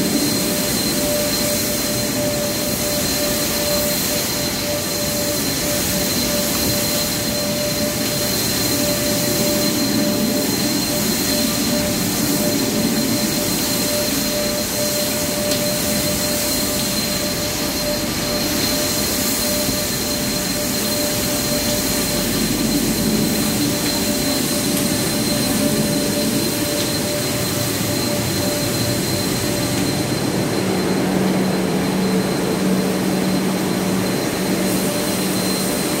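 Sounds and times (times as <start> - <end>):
high steady whine: 0.0 - 36.0
train equipment hum and rush: 0.0 - 36.0
lower hum: 5.1 - 36.0.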